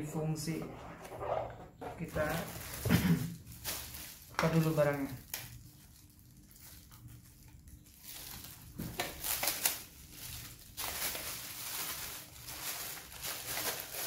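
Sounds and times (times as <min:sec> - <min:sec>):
plastic bag crinkling: 0:02.0 - 0:14.0.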